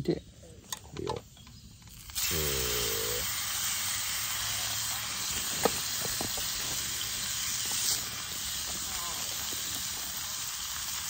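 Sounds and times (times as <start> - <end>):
meat sizzling in a skillet: 1.9 - 11.0.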